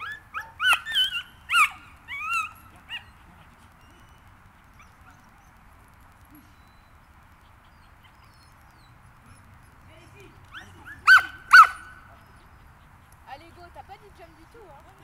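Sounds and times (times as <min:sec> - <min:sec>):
small dog yipping: 0:00.0 - 0:05.6, 0:06.6 - 0:13.6
faint outdoor background: 0:00.0 - 0:15.0.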